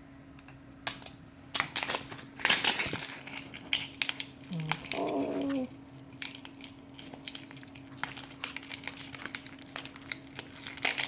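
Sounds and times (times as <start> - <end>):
plastic packaging crinkling: 0.9 - 11.0.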